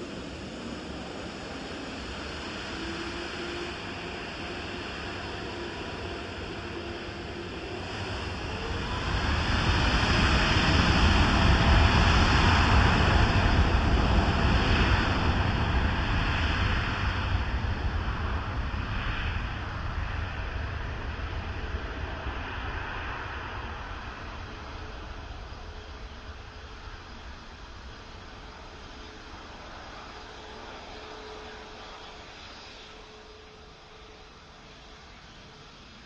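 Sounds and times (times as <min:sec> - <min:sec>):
jet airliner engines roaring: 0:00.0 - 0:36.0.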